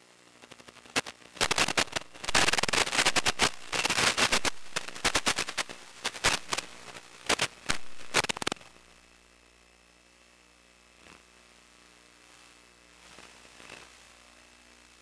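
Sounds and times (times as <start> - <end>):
faint steady hum: 0.0 - 15.0
radio static crackling: 0.0 - 15.0.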